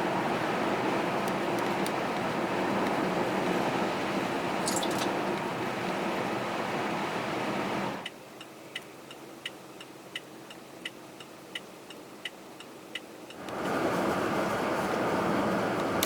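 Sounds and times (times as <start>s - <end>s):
road noise inside a car: 0.0s - 16.0s.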